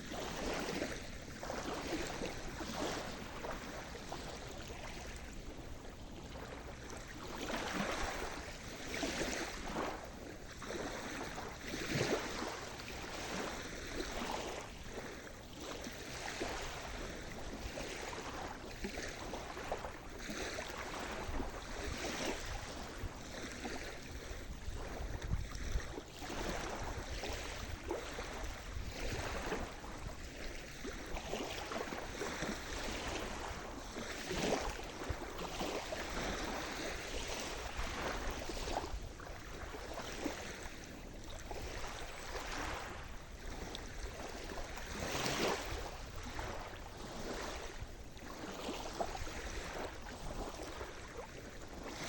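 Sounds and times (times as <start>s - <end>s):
waves breaking on shore: 0.0s - 52.0s.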